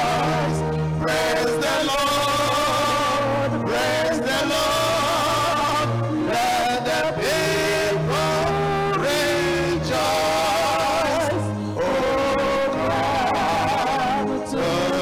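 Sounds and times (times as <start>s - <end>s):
man singing hymn into microphone: 0.0s - 15.0s.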